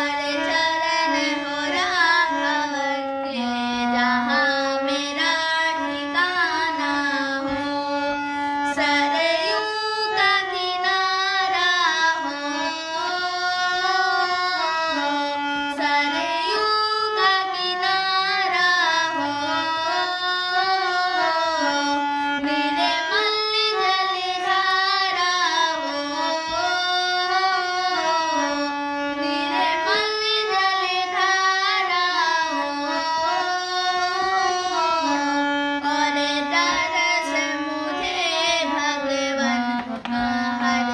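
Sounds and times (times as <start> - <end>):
person singing devotional song: 0.0 - 40.9.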